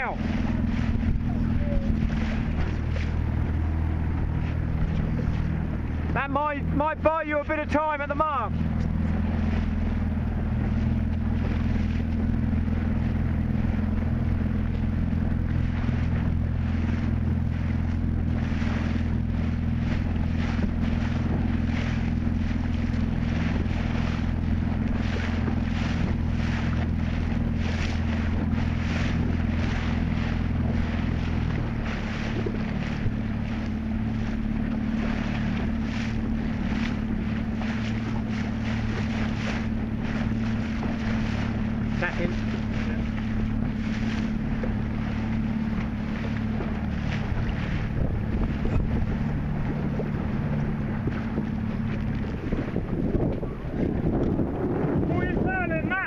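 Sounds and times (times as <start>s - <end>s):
wind on microphone: 0.0s - 6.2s, 8.4s - 56.0s
motorboat engine running: 0.0s - 56.0s
water splashing against hull: 0.0s - 56.0s.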